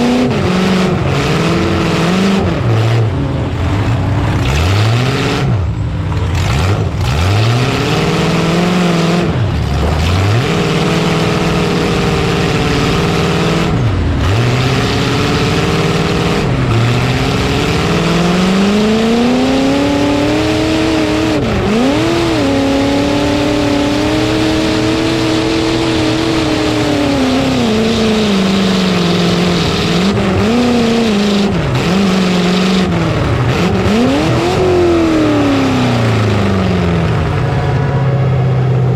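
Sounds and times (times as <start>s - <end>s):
dense noisy background: 0.0s - 38.9s
truck engine revving hard: 0.0s - 38.9s.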